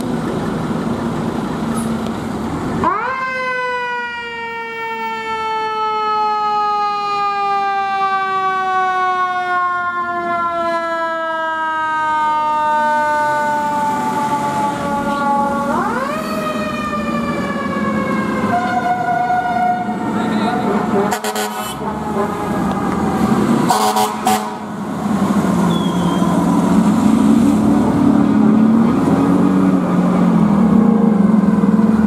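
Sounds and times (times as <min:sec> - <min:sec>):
fire truck engine rumble: 0:00.0 - 0:32.0.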